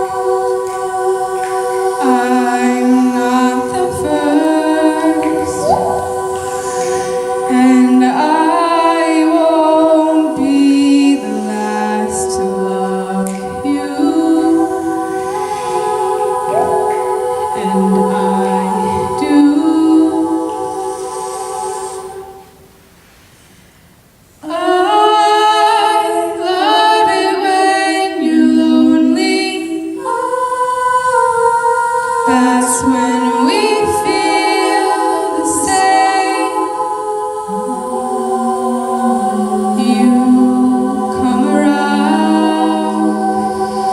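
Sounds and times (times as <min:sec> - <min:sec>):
a cappella group singing chords: 0:00.0 - 0:43.9.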